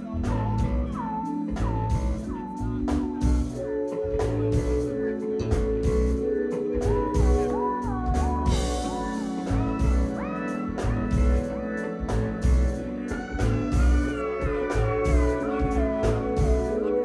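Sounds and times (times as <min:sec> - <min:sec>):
deep pulsing bass line: 0:00.0 - 0:17.0
drum kit: 0:00.0 - 0:17.0
funk band playing: 0:00.0 - 0:17.0
keyboard chords: 0:00.0 - 0:17.0.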